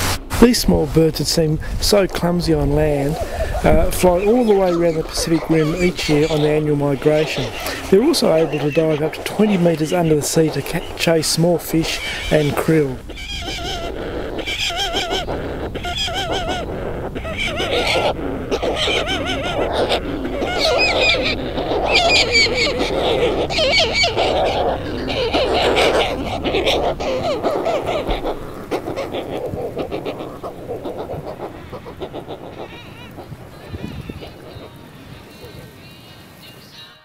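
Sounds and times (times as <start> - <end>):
seabirds warbling calls: 0.0 - 37.0.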